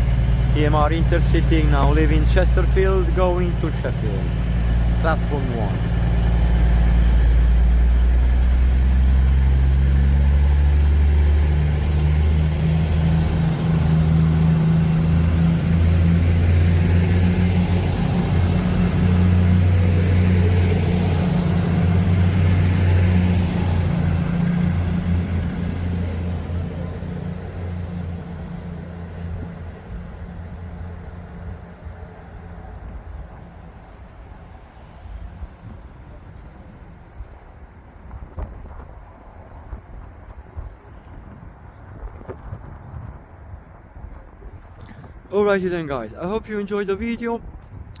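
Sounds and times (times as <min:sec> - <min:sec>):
diesel train engines running: 0:00.0 - 0:39.6.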